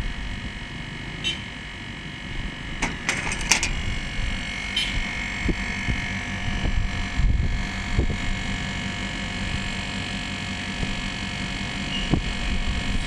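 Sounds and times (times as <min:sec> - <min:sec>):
air conditioner outdoor unit humming: 0:00.0 - 0:13.0.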